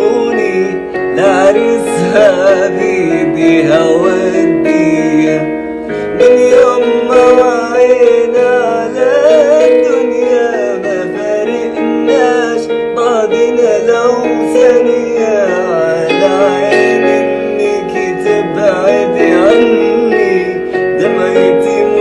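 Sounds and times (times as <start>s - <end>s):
held instrumental chords: 0.0s - 22.0s
person singing: 0.0s - 22.0s.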